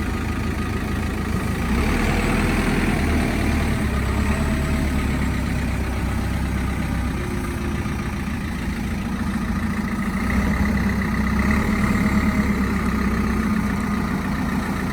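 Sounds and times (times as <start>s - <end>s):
diesel engine idling: 0.0s - 14.9s.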